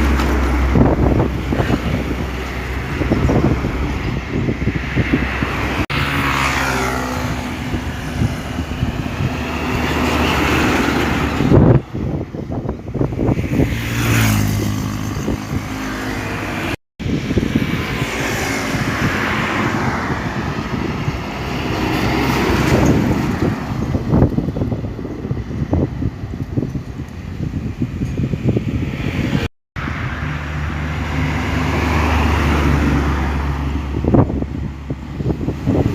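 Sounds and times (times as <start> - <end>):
trucks driving past: 0.0 - 35.9.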